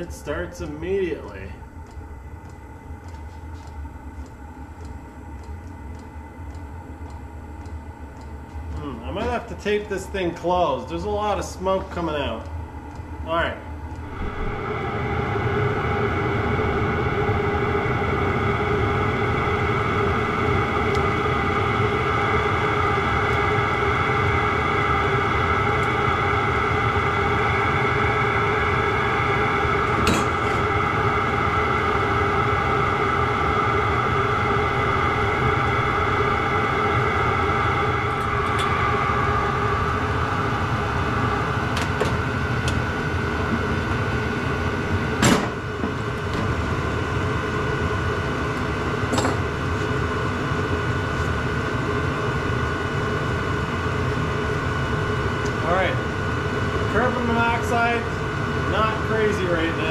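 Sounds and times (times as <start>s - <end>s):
parking heater whirring: 0.0s - 59.9s.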